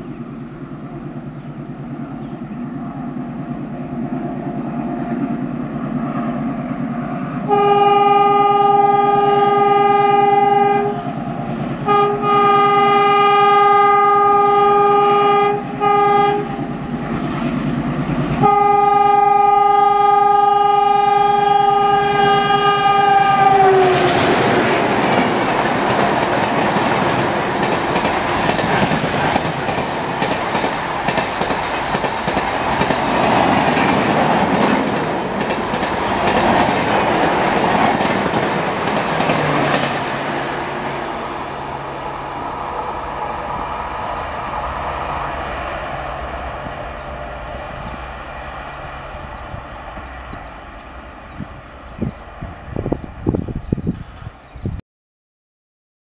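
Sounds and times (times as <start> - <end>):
train rushing past: 0.0 - 54.8.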